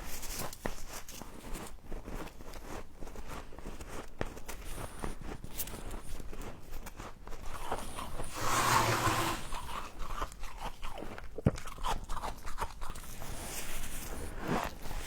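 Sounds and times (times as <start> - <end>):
crunching and chewing frost: 0.1 - 15.0.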